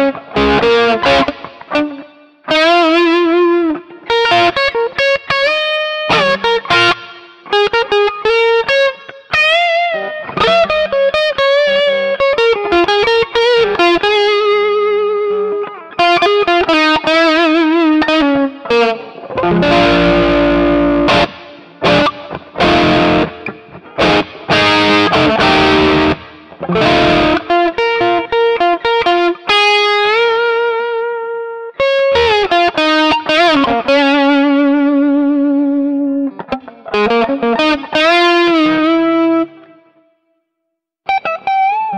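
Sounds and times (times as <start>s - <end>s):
electric guitar playing blues licks: 0.0s - 40.0s, 41.1s - 41.9s.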